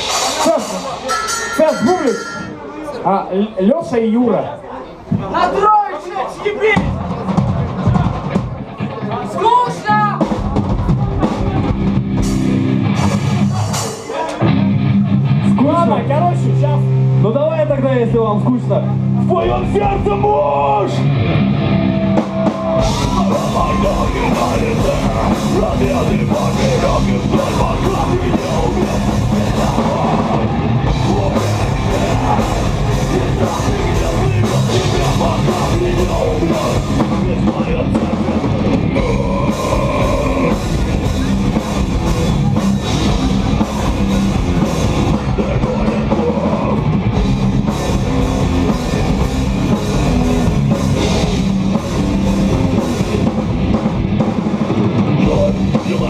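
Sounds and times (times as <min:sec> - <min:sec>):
live rock band playing: 0:00.0 - 0:02.8, 0:06.8 - 0:56.0.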